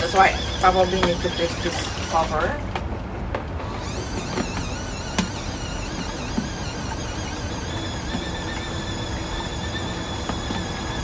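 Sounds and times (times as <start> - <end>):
washing machine churning water: 0.0 - 11.0.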